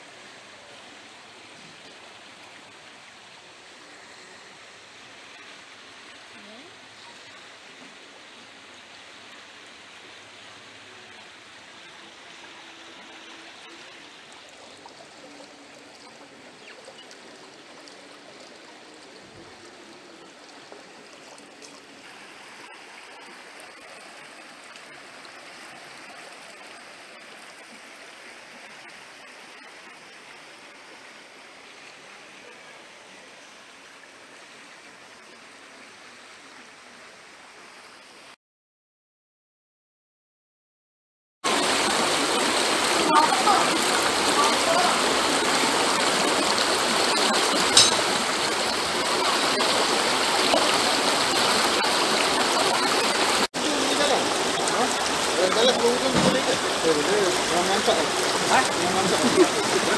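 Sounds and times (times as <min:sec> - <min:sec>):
river rushing over stones: 0:00.0 - 0:35.6, 0:41.5 - 0:59.9.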